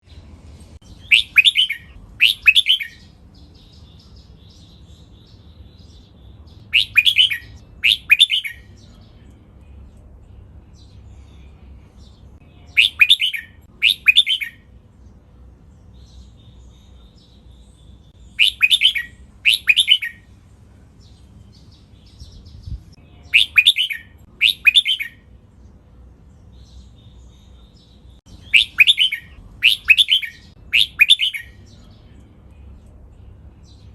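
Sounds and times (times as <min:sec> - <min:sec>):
bulbul singing: 0:00.0 - 0:33.9.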